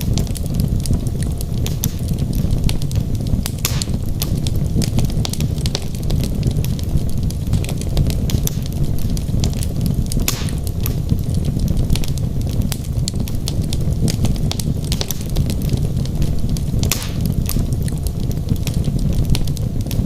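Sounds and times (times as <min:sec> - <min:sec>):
fire flames rumbling: 0:00.0 - 0:20.0
logs crackling and popping: 0:00.0 - 0:20.0.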